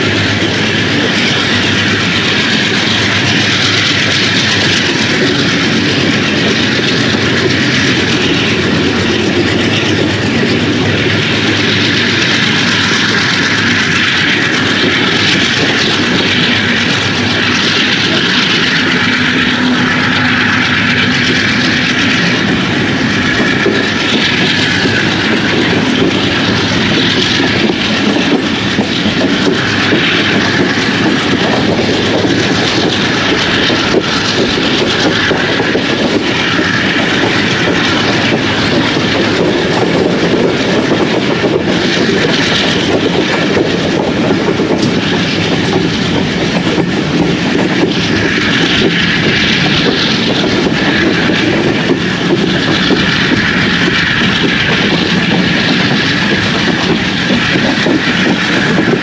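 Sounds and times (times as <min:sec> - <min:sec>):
train wheels rushing on rail: 0:00.0 - 0:59.0
wheels clacking over rail joints: 0:00.0 - 0:59.0
wind rushing: 0:00.0 - 0:59.0.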